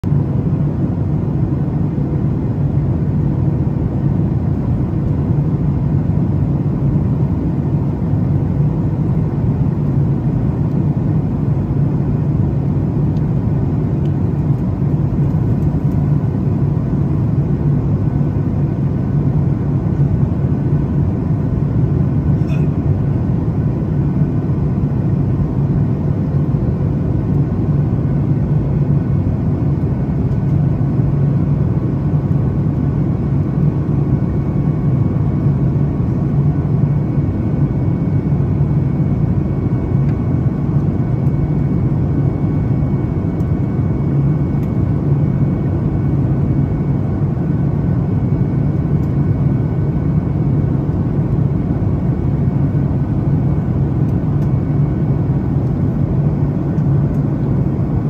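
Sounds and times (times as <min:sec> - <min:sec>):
faint steady hum: 0:00.1 - 0:58.0
jet engines rumbling: 0:00.1 - 0:58.0.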